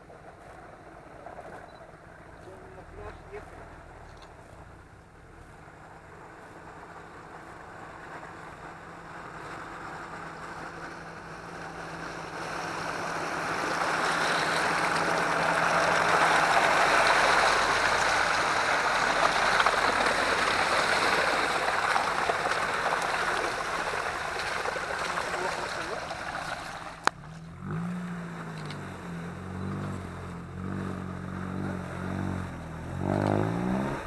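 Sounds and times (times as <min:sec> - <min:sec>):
off-road vehicle engine hum: 0:00.0 - 0:34.0
tyres splashing through muddy water: 0:00.0 - 0:34.0.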